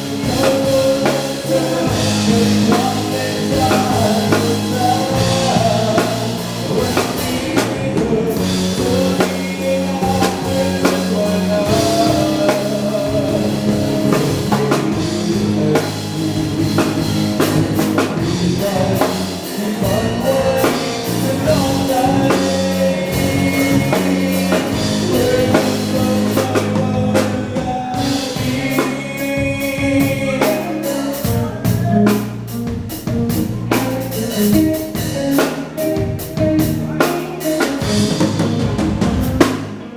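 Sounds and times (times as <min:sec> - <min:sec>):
drum kit beat: 0:00.0 - 0:39.9
live band playing: 0:00.0 - 0:39.9
person singing: 0:00.0 - 0:39.9.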